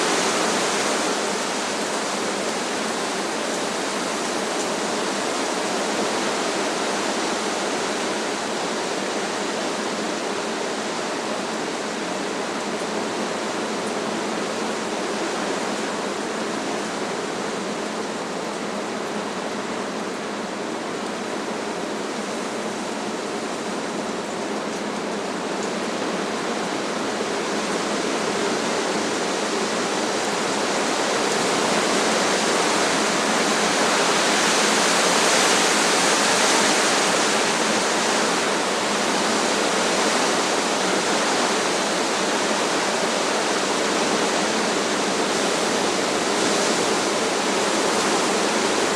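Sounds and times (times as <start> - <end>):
strong wind rushing through trees: 0.0 - 48.9.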